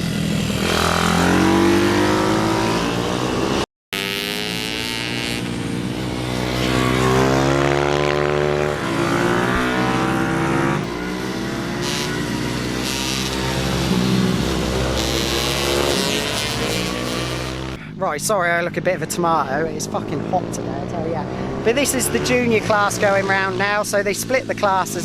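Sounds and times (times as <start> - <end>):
pit bike engines revving: 0.0 - 25.0.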